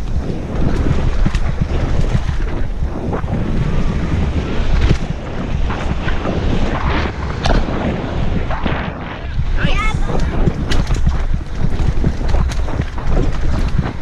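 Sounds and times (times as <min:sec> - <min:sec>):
bike knocks and rattles: 0:00.0 - 0:14.0
bike tyres rumbling on dirt: 0:00.0 - 0:14.0
wind buffeting microphone: 0:00.0 - 0:14.0.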